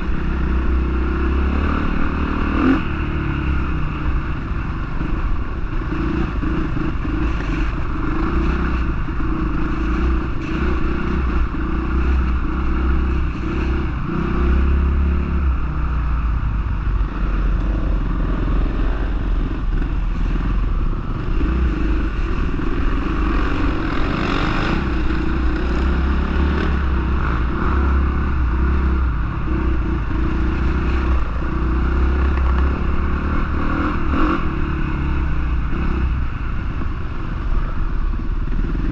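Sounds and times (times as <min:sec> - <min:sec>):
motocross bike engine: 0:00.0 - 0:38.9.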